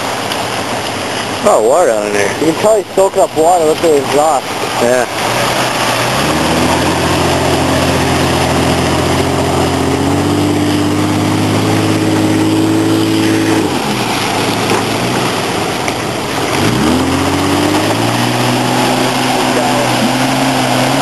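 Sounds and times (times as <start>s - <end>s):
car engine running in water: 0.0s - 21.0s.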